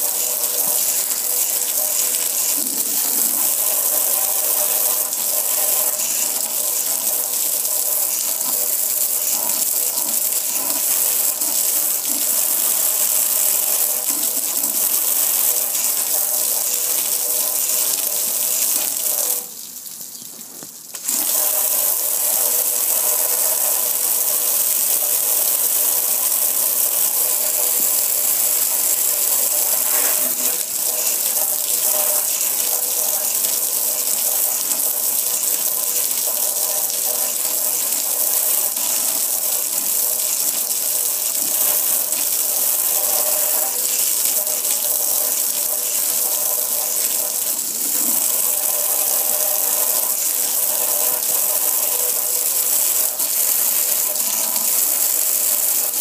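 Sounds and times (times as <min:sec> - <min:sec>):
water spraying on metal grill: 0:00.0 - 0:19.6, 0:20.9 - 0:56.0.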